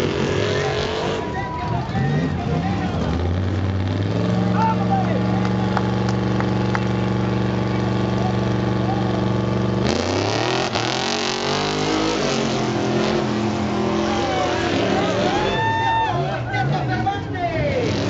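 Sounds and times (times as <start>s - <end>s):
race truck engine revving: 0.0s - 18.0s.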